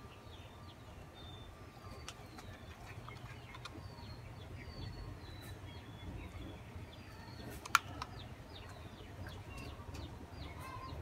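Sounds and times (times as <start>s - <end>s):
low steady hum: 0.0s - 11.0s
small birds chirping: 0.0s - 11.0s.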